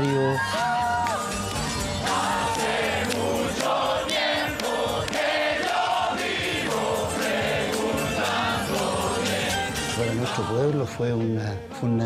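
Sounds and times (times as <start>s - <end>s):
music: 0.0s - 12.0s
crowd singing: 1.7s - 12.0s.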